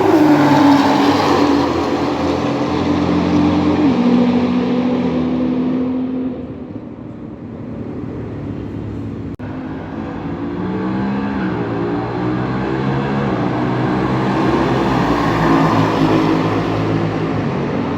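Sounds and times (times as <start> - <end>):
racing car engines: 0.0 - 17.9.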